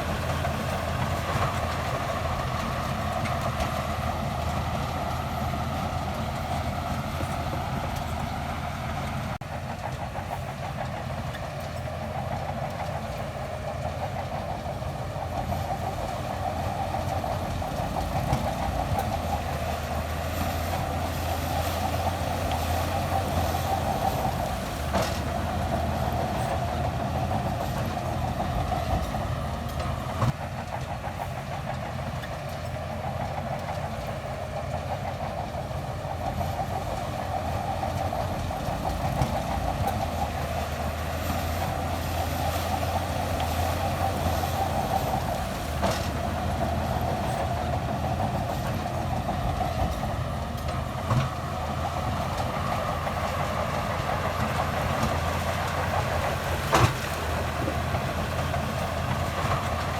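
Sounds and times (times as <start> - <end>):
bulldozer diesel engine running: 0.0 - 59.9
steel tracks clattering and squealing: 0.0 - 59.9.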